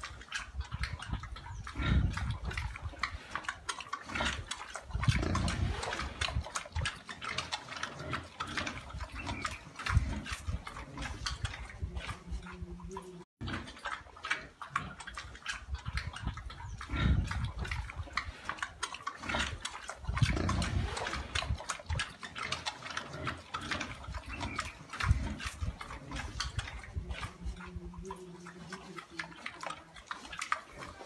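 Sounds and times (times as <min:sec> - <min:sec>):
pigs grunting: 0:00.0 - 0:31.0.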